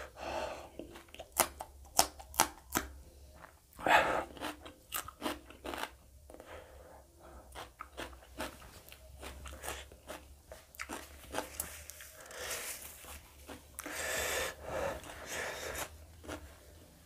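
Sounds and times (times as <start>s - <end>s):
crunchy chewing: 0.8s - 6.5s, 7.5s - 14.0s, 15.0s - 16.5s.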